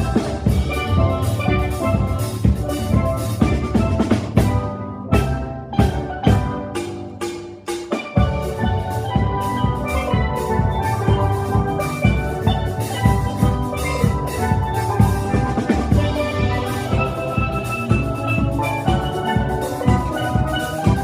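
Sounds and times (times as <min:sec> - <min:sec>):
drum kit beat: 0:00.0 - 0:21.0
steel pans playing melody: 0:00.0 - 0:21.0.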